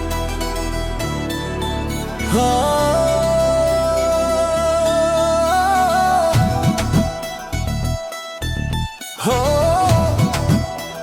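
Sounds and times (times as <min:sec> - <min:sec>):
low musical accompaniment: 0:00.0 - 0:11.0.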